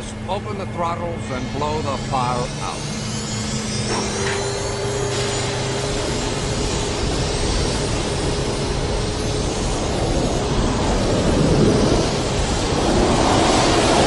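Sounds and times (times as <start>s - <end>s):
jet engines roaring: 0.0s - 14.0s
steady mid-pitched tone: 0.0s - 14.0s.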